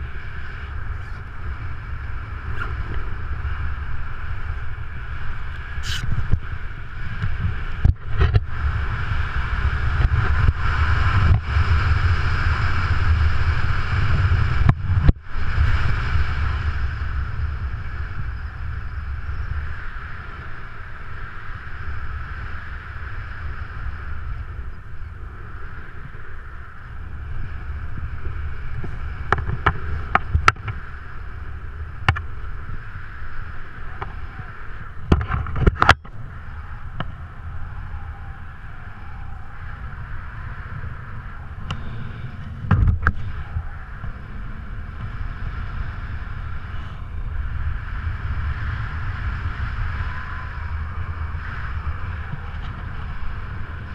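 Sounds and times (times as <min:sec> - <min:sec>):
wind rushing over camera: 0:00.0 - 0:53.9.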